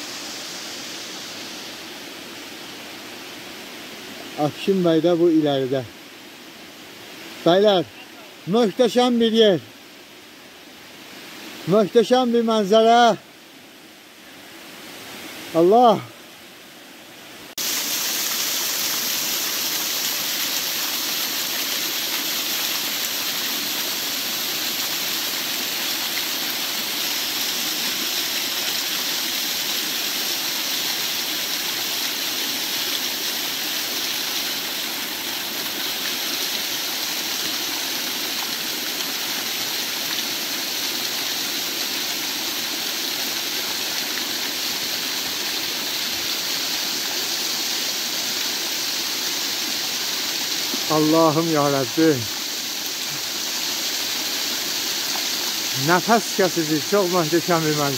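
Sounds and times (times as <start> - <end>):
waterfall rushing and splashing: 0.0 - 57.9.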